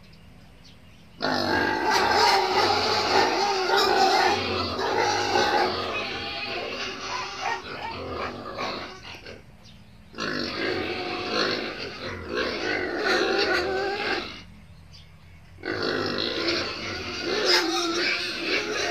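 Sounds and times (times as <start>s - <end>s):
pigs squealing: 1.2s - 9.5s, 10.1s - 14.5s, 15.6s - 18.9s.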